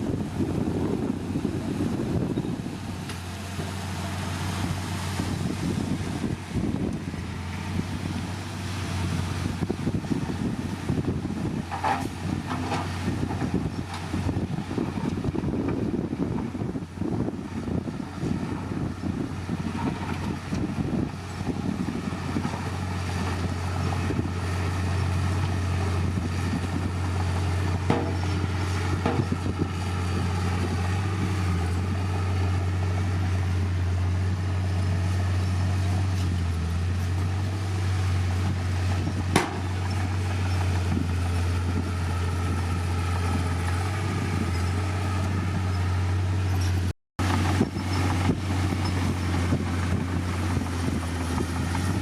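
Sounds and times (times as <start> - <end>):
diesel machinery engine drone: 0.0 - 52.0.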